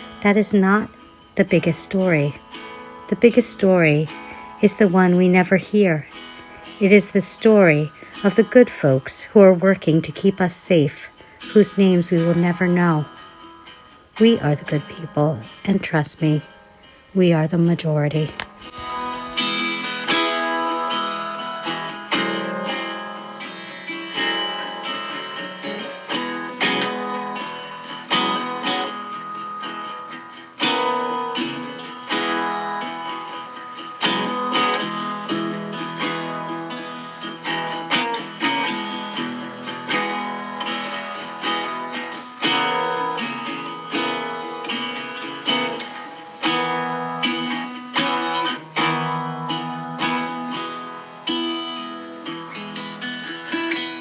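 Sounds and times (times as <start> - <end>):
resonator guitar playing: 0.0 - 54.0.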